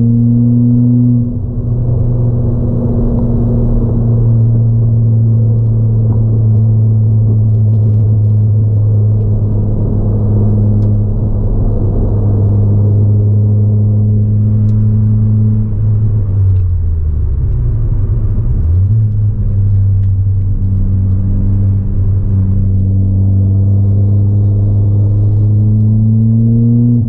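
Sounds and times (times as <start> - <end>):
car engine droning in cabin: 0.0 - 27.0.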